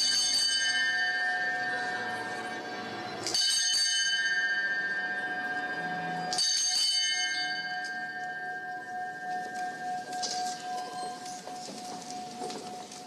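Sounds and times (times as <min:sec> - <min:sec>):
bell ringing: 0:00.0 - 0:12.9.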